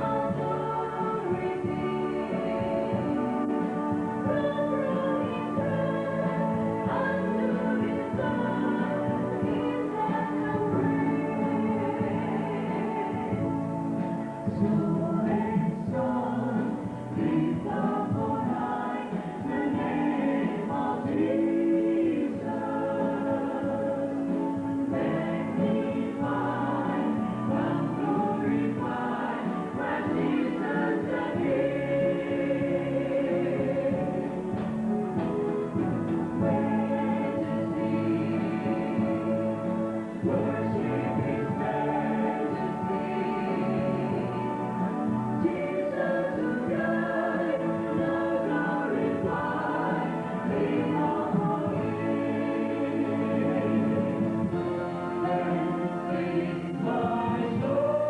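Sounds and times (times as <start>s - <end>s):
choir singing a slow hymn: 0.0s - 58.0s.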